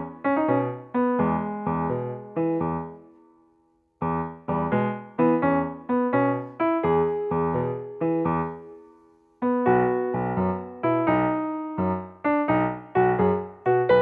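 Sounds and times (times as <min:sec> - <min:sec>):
gentle keyboard tune: 0:00.0 - 0:03.3, 0:04.0 - 0:14.0.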